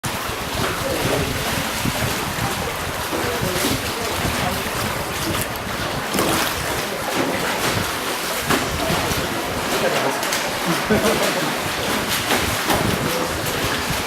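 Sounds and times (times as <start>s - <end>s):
water sounds from boat: 0.0s - 14.0s
wind noise on microphone: 0.0s - 14.0s.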